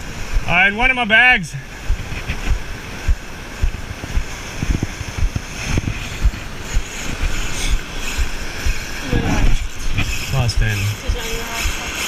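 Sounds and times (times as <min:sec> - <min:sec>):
wind buffeting microphone: 0:00.0 - 0:00.9, 0:01.6 - 0:12.0.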